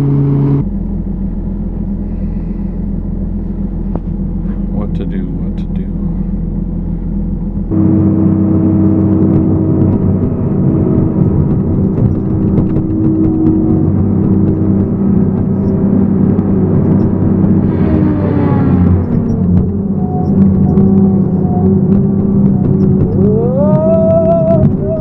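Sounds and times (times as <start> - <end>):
forestry machine engine revving: 0.0 - 25.0.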